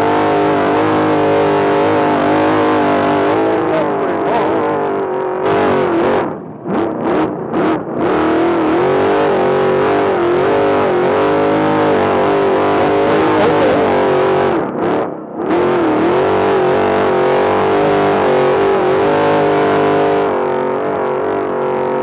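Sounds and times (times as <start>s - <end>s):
race engine revving: 0.0s - 22.0s.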